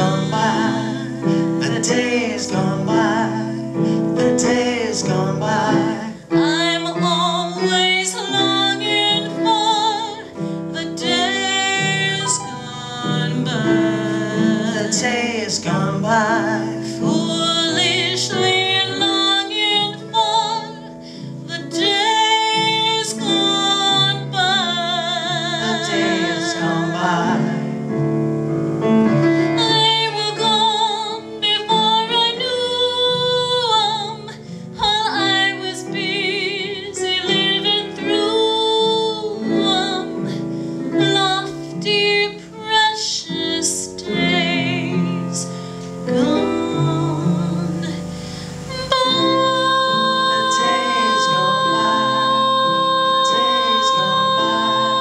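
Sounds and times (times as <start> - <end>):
woman singing jazz with vibrato: 0.0 - 27.9, 29.3 - 55.0
piano accompaniment: 0.0 - 55.0.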